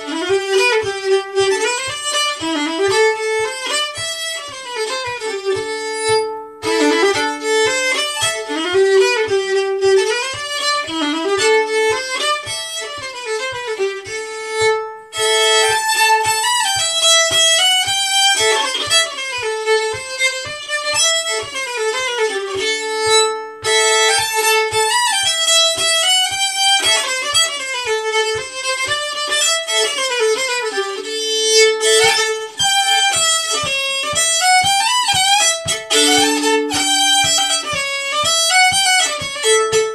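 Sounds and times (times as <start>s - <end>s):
fiddle playing dance tune: 0.0s - 39.9s
low thumping beat: 0.0s - 39.9s.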